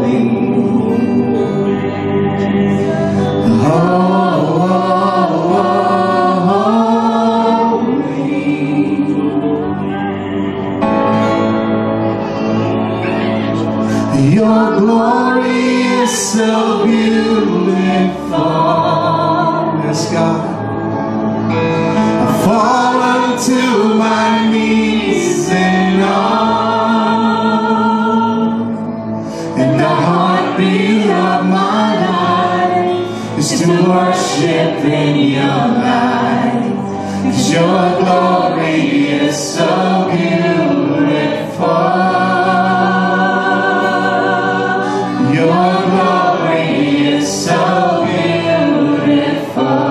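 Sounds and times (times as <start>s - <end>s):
worship band with singers: 0.0s - 49.9s.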